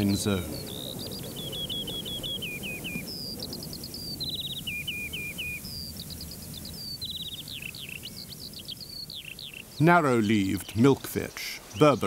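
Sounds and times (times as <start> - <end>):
low background noise: 0.0 - 12.0
songbird trilling: 0.0 - 12.0.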